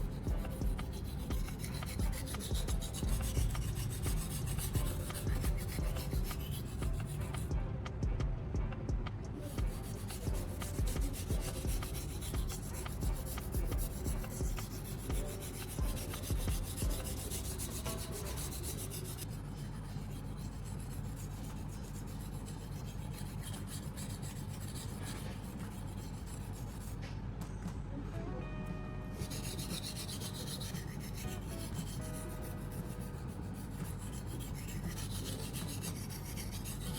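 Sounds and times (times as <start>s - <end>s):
knife scraping on whetstone: 0.0s - 7.5s, 9.7s - 27.0s, 29.2s - 36.9s.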